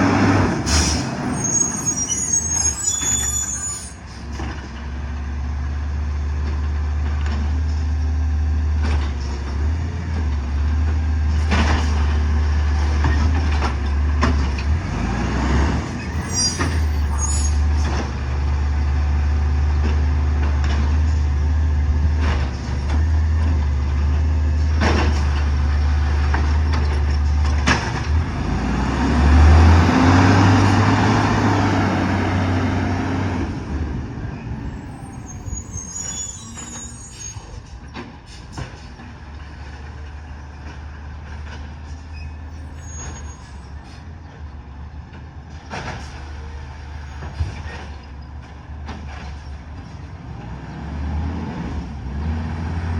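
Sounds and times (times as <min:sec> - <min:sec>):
truck diesel engine rumbling: 0:00.0 - 0:52.9.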